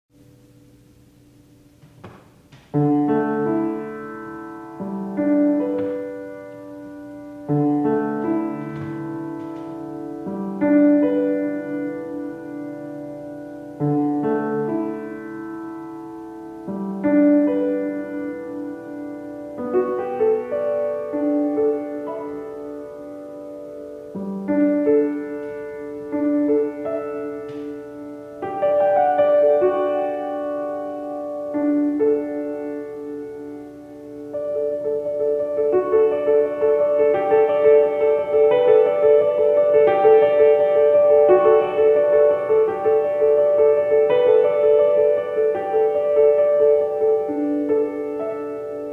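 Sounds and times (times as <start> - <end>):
slow piano chords: 0.1 - 48.9.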